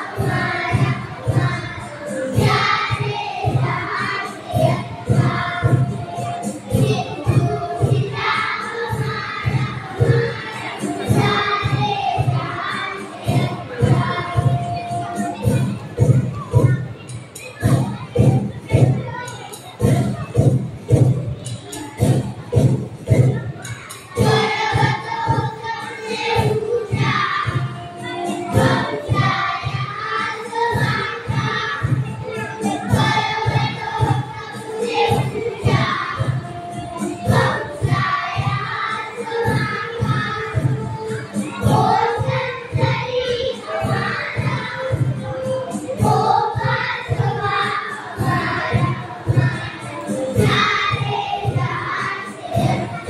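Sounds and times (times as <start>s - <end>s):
backing music with drum beat: 0.0s - 53.0s
children's choir singing: 0.0s - 53.0s.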